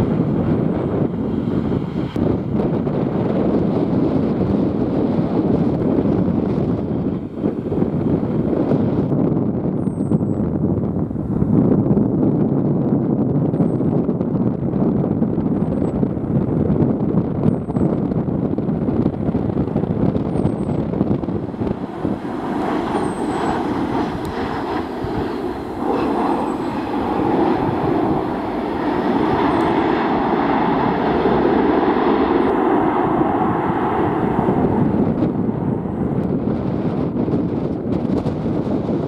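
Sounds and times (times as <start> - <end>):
jet engines roaring: 0.0 - 9.0, 15.3 - 39.0
wind buffeting microphone: 0.0 - 39.0.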